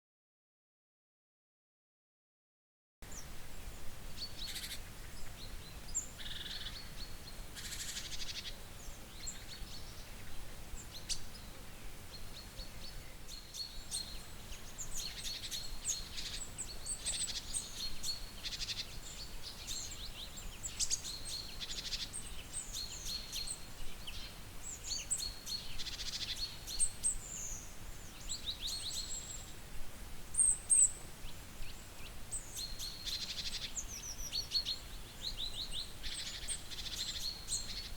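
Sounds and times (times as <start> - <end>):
faint background hiss: 3.0 - 37.9.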